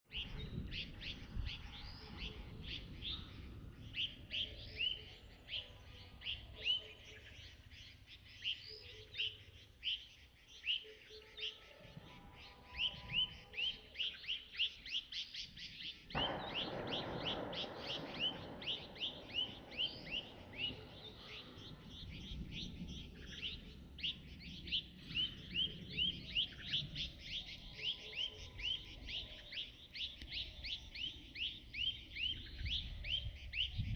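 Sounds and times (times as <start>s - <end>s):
bird chirping: 0.1s - 33.9s.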